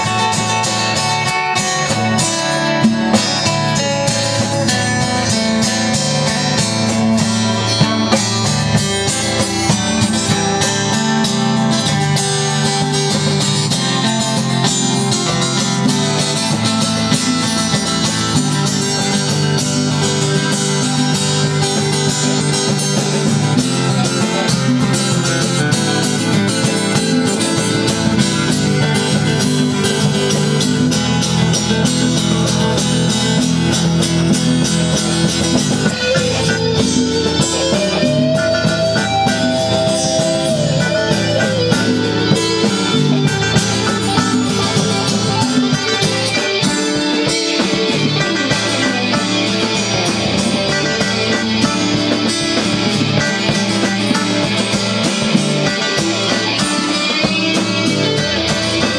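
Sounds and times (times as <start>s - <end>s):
live band playing guitar jam: 0.0s - 58.9s.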